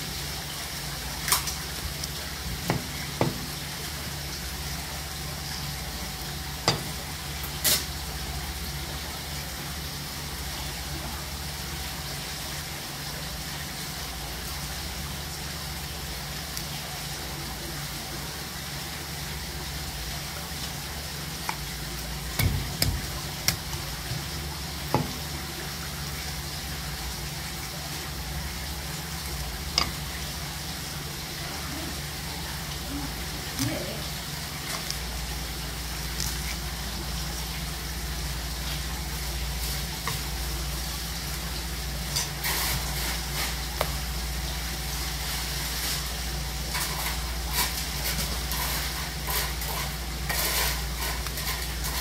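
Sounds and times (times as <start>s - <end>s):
steady hiss with low hum: 0.0s - 52.0s.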